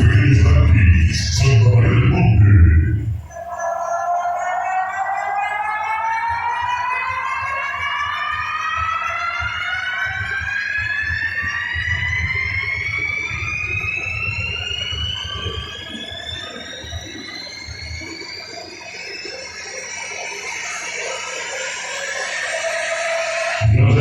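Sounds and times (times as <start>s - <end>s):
electronic tone rising in pitch: 0.0s - 24.0s.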